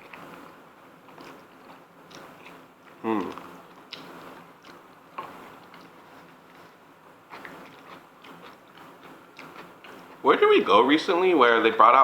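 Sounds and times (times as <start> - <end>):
soft chewing: 0.0 - 10.6.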